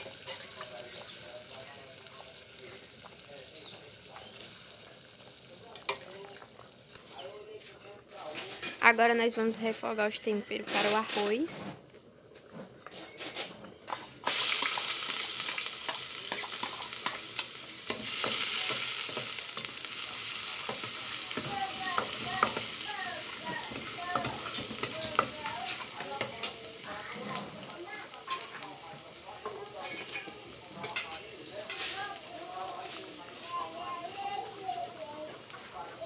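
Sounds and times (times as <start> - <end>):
seasonings sizzling in hot oil: 0.0 - 7.2, 10.7 - 11.6, 13.9 - 36.0.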